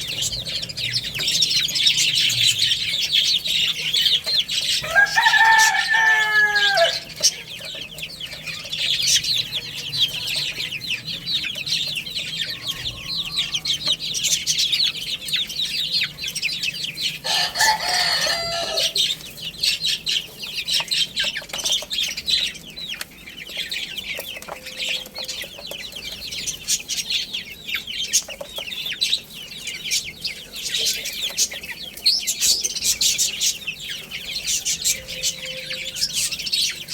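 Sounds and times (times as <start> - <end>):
baby chicks peeping: 0.0 - 36.9.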